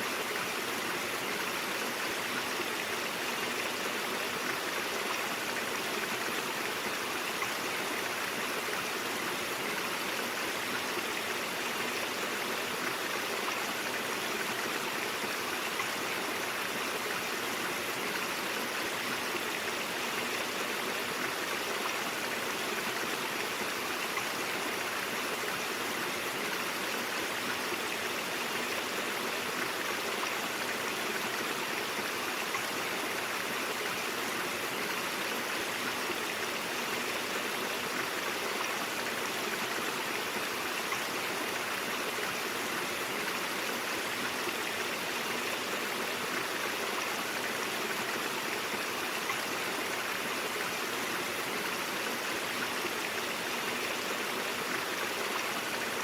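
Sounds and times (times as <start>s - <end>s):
brook water running: 0.0s - 56.0s.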